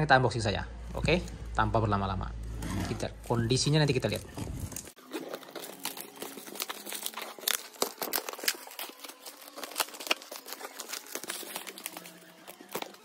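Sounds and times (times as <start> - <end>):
plastic wrapping and tape tearing: 2.4 - 13.0.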